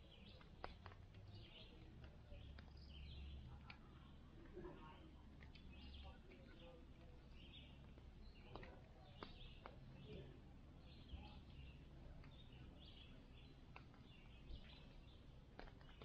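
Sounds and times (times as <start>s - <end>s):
soft bird chirps: 0.0s - 16.0s.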